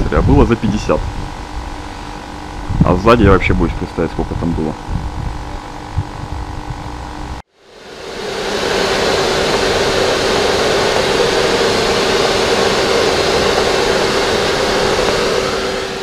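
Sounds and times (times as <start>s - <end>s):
vacuum cleaner whine: 0.0s - 16.0s.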